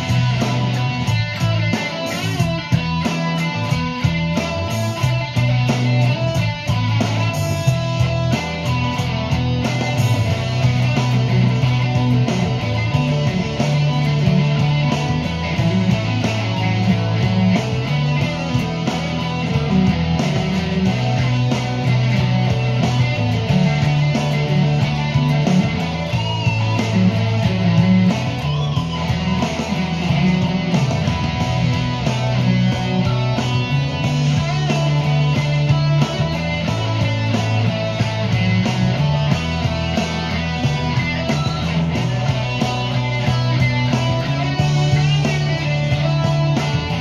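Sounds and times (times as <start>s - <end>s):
backing track with steady beat: 0.0s - 47.0s
electric guitar through amplifier: 0.0s - 47.0s
sustained low bass line: 0.0s - 47.0s.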